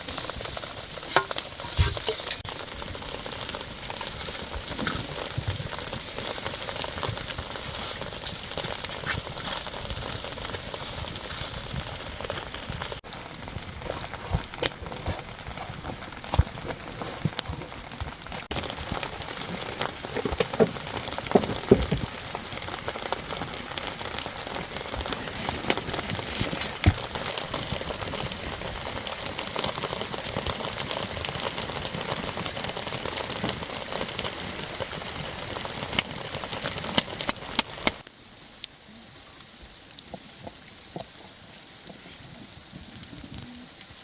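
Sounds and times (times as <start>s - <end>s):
heavy rain falling: 0.0s - 44.0s
raindrops striking hard surfaces: 0.0s - 44.0s.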